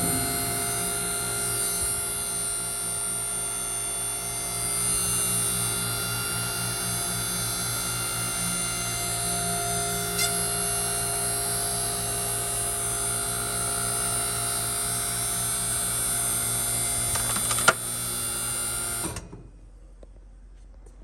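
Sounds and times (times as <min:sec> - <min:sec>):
hydraulic compactor motor humming: 0:00.0 - 0:19.5.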